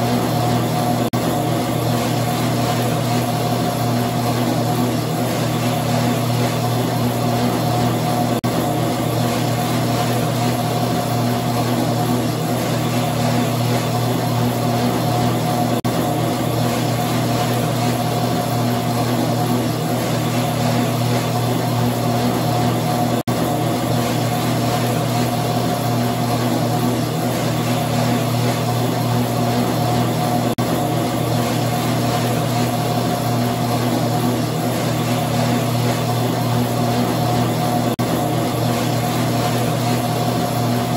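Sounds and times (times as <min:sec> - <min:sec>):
treadmill motor hum and whine: 0:00.0 - 0:40.9.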